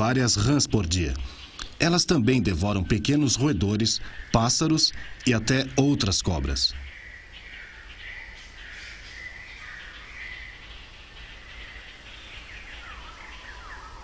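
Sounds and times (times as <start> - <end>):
birds wavering calls: 0.0 - 14.0.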